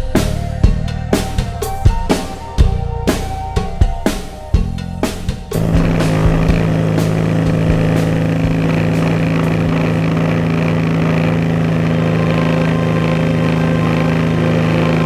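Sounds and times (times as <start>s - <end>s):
petrol engine droning: 0.0s - 15.0s.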